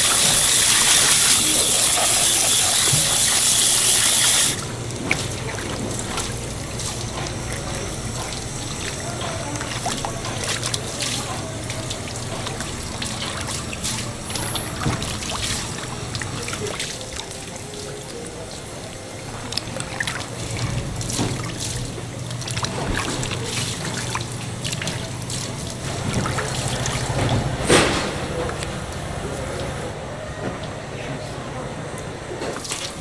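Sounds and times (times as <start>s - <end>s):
water sloshing and splashing: 1.4s - 29.9s, 32.4s - 33.0s.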